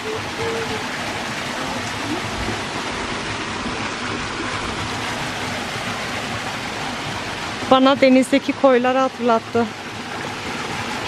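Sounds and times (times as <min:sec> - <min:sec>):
small waterfall splashing into pool: 0:00.0 - 0:11.0.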